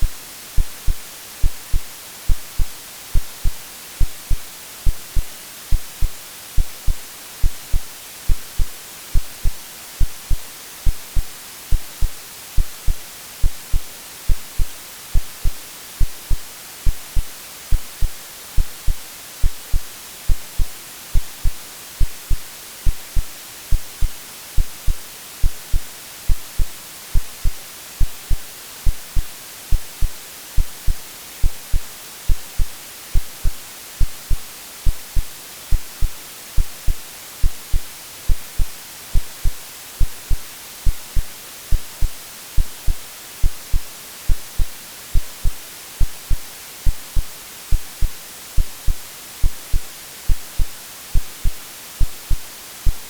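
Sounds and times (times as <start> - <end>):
white noise hiss: 0.0 - 53.0
synthesized heartbeat thumps: 0.6 - 53.0.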